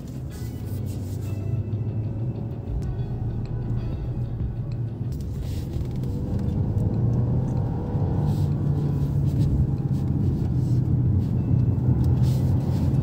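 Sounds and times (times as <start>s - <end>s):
road noise inside car: 0.0s - 13.0s
car engine accelerating: 1.3s - 13.0s.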